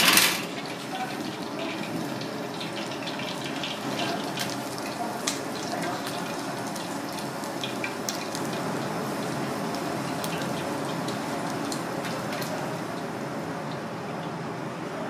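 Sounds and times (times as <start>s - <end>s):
fish frying in oil: 0.0s - 14.6s.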